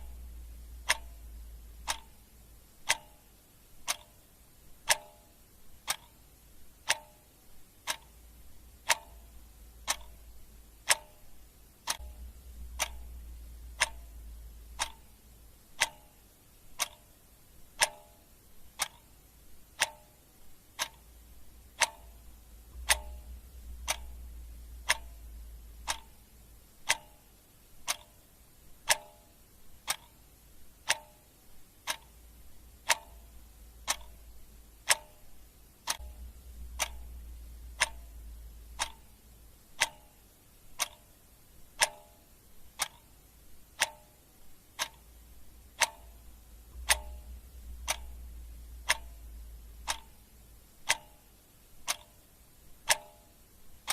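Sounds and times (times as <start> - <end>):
clock ticking: 0.0 - 53.9.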